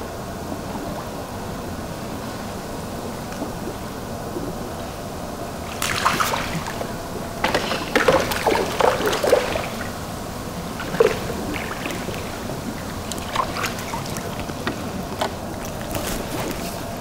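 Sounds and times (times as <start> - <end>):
fish splashing in water: 3.3 - 17.0.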